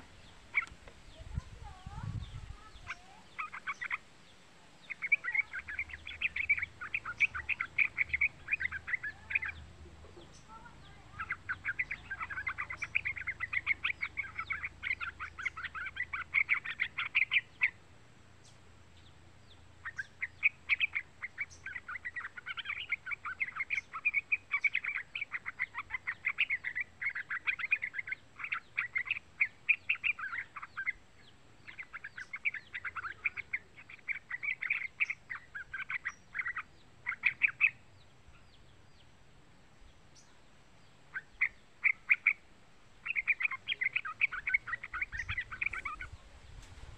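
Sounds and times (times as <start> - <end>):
bird chattering song: 0.0 - 46.9.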